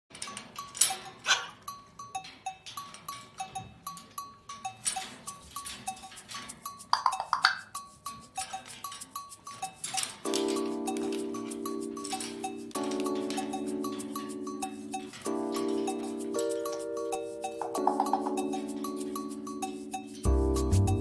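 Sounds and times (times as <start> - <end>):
percussion beat of clicks and pips: 3.4 - 21.0.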